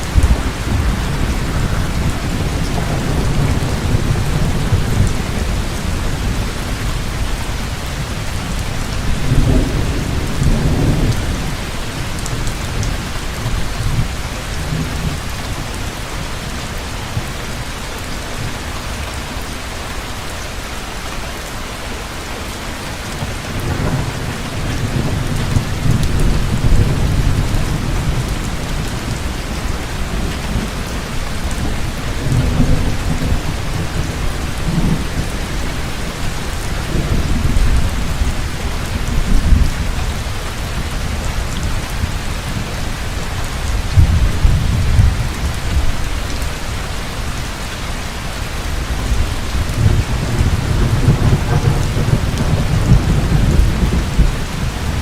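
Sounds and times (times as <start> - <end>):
thunder rumbling: 0.0 - 15.3, 23.2 - 47.4, 48.7 - 55.0
heavy rain falling: 0.0 - 55.0.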